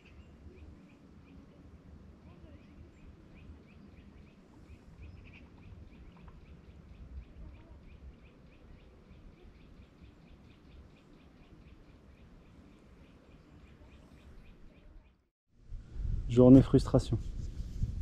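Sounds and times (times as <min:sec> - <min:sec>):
bird chirping: 0:00.0 - 0:15.3.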